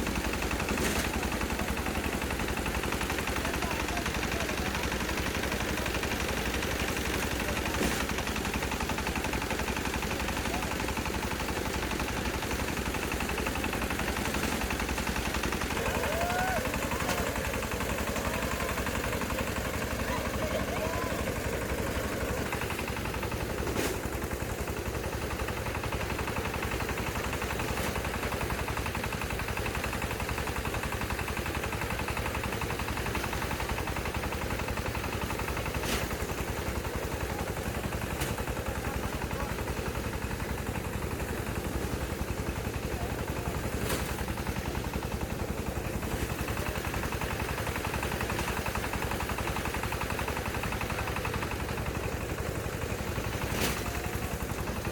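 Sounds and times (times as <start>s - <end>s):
small engine rattling: 0.0s - 54.9s.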